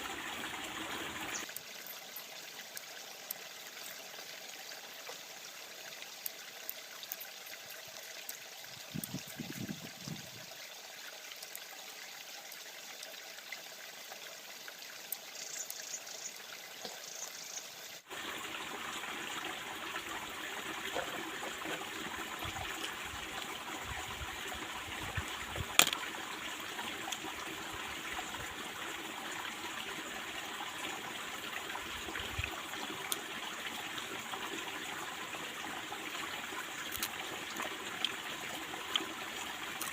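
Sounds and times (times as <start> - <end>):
stream babbling over rocks: 0.0 - 15.6, 18.0 - 39.9.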